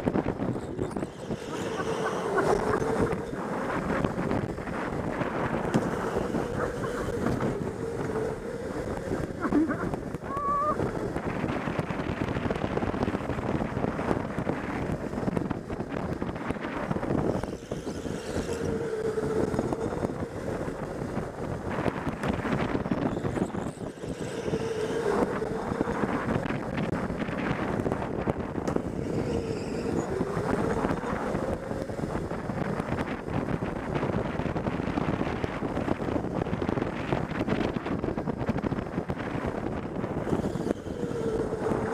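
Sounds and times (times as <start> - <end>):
go-kart chassis rattling rumble: 0.0 - 41.9
wind buffeting microphone: 0.0 - 41.9.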